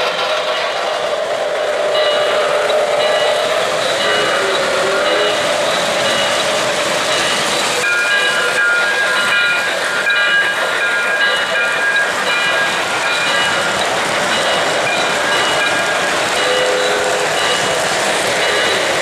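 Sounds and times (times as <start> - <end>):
model trains rushing hiss: 0.0 - 19.0.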